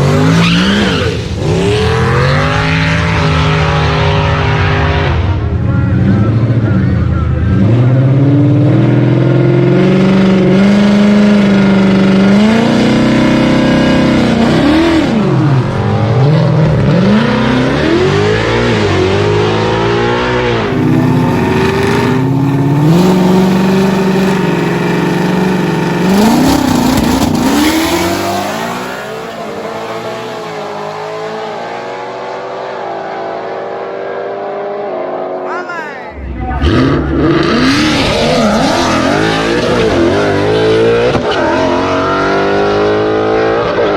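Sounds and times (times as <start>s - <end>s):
car engines revving: 0.0s - 35.5s, 36.1s - 43.9s.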